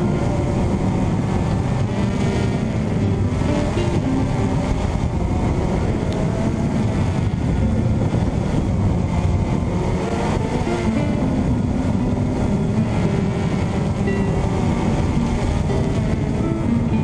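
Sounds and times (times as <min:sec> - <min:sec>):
drone motors buzzing: 0:00.0 - 0:17.0
heavy rumble: 0:00.0 - 0:17.0.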